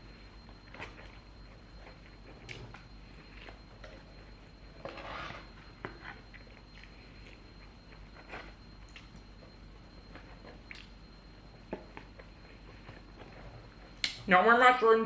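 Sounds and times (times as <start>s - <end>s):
person chewing food: 0.0s - 14.1s
high-pitched whine: 0.0s - 15.0s.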